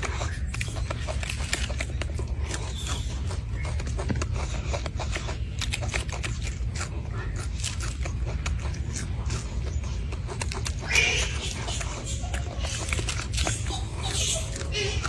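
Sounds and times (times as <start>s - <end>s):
monkey chewing fruit: 0.0s - 15.0s
steady low rumble: 0.0s - 15.0s.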